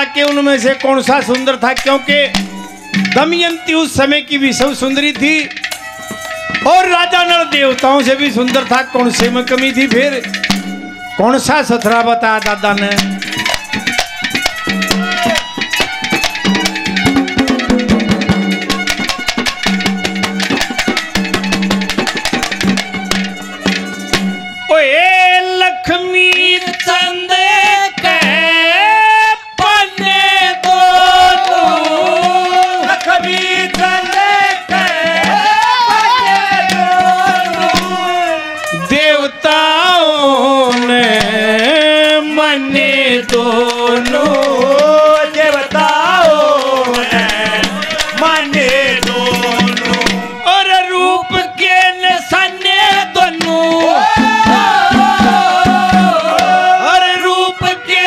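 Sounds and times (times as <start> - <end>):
sliding melody line: 0.0 - 25.2, 29.6 - 58.0
hand drums: 0.0 - 58.0.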